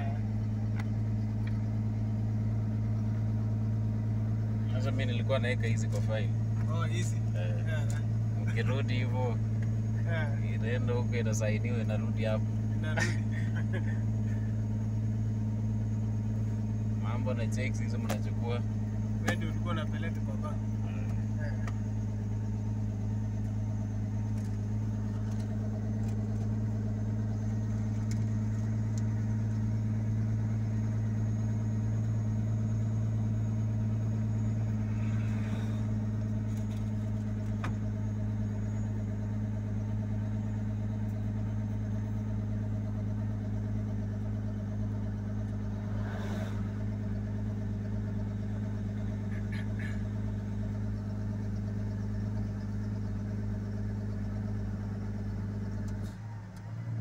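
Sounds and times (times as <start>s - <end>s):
vehicle engine drone in cab: 0.0s - 57.0s.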